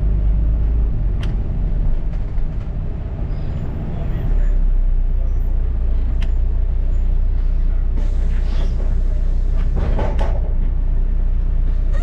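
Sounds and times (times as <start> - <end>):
bus interior rumble: 0.0 - 12.0.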